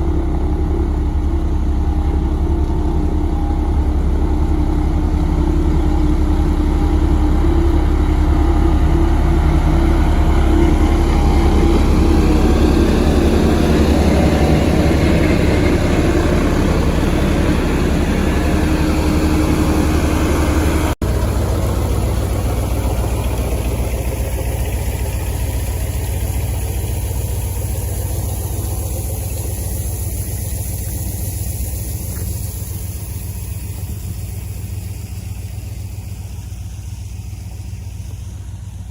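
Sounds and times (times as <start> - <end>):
construction machinery engine running: 0.0 - 38.9.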